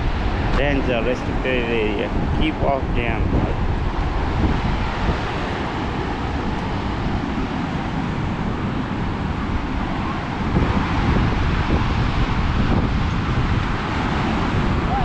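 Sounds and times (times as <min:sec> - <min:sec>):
water roaring over a dam: 0:00.0 - 0:15.0
wind buffeting microphone: 0:00.0 - 0:15.0.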